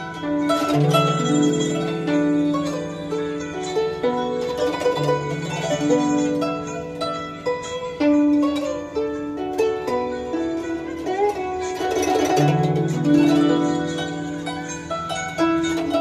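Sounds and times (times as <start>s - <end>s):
guzheng plucked melody: 0.0s - 16.0s.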